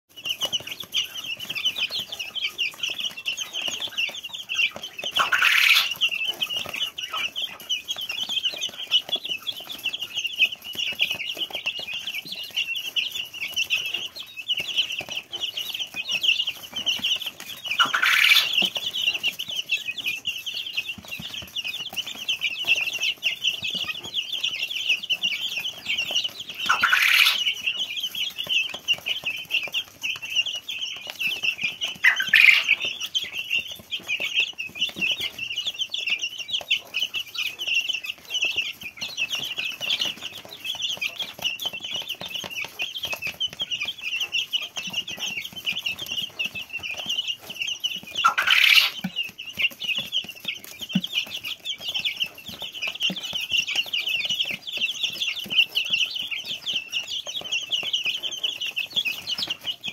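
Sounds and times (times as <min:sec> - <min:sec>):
chicks peeping: 0:00.1 - 0:59.9.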